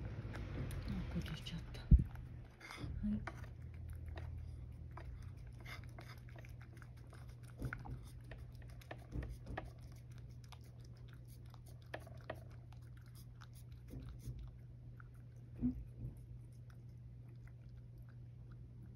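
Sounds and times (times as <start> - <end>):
cat chewing and licking: 0.0 - 18.9
low steady hum: 0.0 - 18.9.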